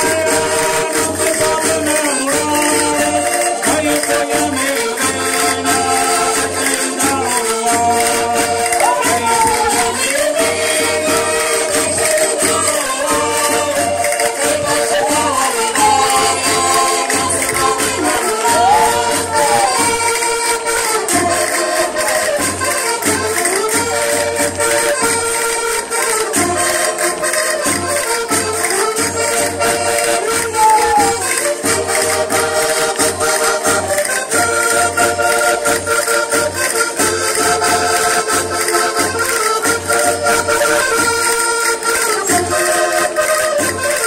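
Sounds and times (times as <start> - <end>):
folk dance music: 0.0 - 44.0.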